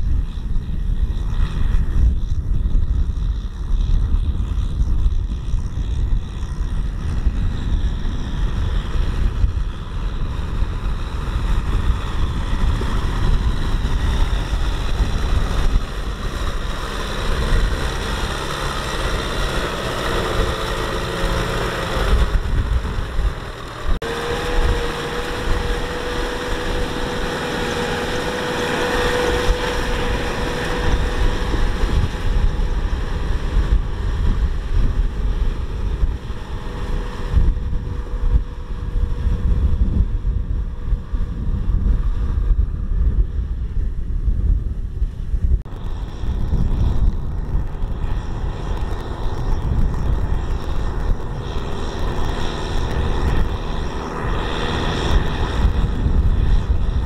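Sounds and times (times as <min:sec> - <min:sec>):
combine harvester engine running: 0:00.0 - 0:43.9, 0:44.9 - 0:57.0
steady machine whine: 0:00.0 - 0:57.0
wind buffeting microphone: 0:00.0 - 0:57.0.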